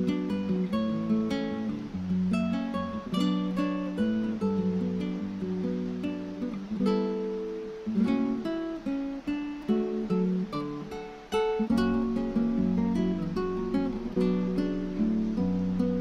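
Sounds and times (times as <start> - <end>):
acoustic guitar melody: 0.0 - 16.0.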